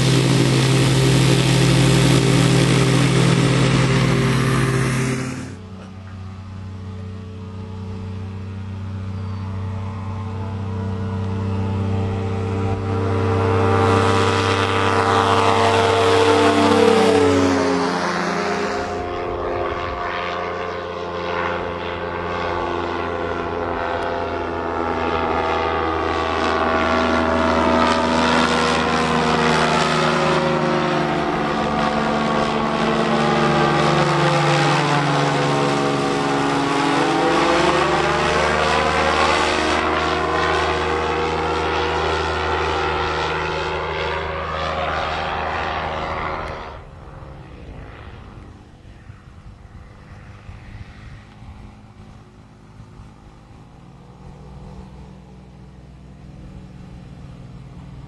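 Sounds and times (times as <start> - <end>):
ultralight plane engine droning: 0.0 - 58.0.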